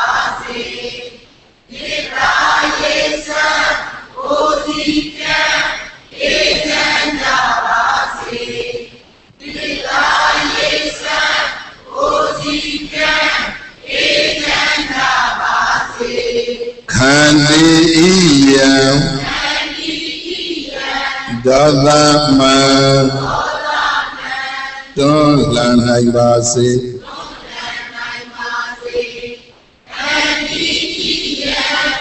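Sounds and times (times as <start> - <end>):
several voices chanting: 0.0 - 32.0.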